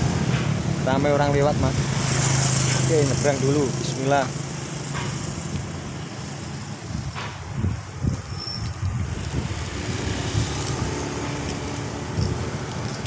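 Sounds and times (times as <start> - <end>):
cars and motorcycles passing: 0.0 - 13.0.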